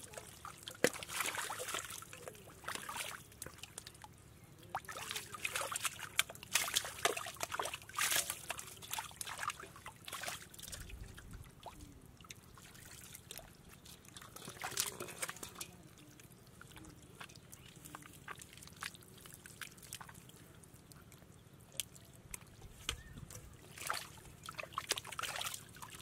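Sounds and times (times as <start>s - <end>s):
hands working through wet mud: 0.0s - 4.0s, 4.7s - 11.2s, 12.6s - 20.4s, 21.7s - 26.0s
water splashing and trickling: 0.0s - 26.0s.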